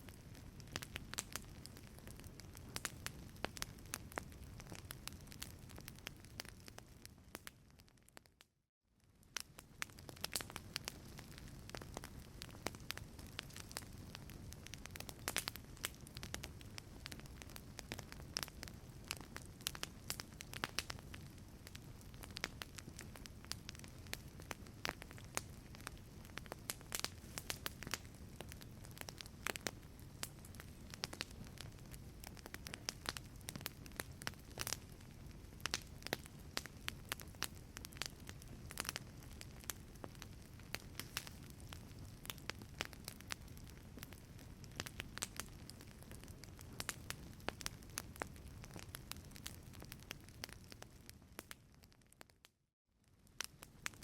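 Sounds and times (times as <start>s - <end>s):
low rumble of flames: 0.0s - 8.2s, 9.0s - 52.2s
wood fire crackling: 0.0s - 8.4s, 9.0s - 52.2s, 53.0s - 54.0s.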